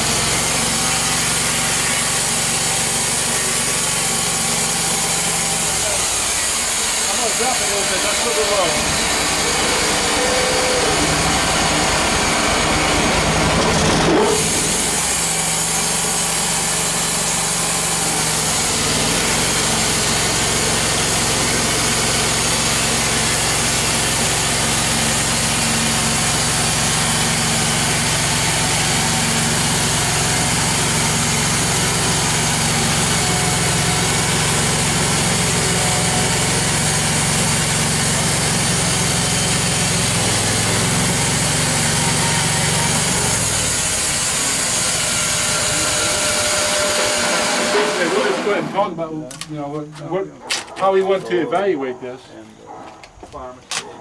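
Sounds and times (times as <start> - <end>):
sawmill engine running: 0.0 - 49.5.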